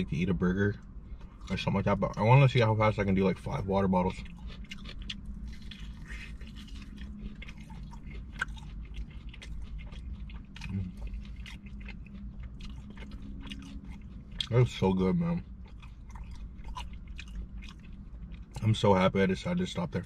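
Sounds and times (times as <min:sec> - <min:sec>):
low hum: 0:00.0 - 0:20.0
chewing food: 0:00.7 - 0:20.0.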